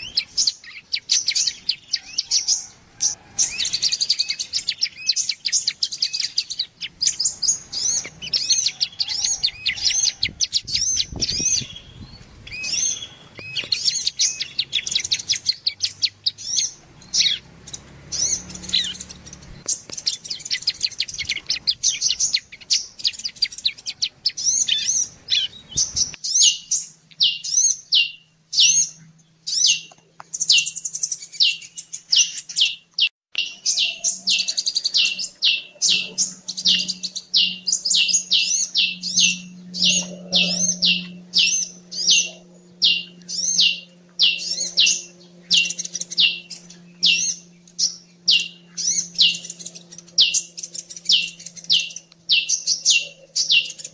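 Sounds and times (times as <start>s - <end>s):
high sharp bird calls: 0.0s - 53.9s.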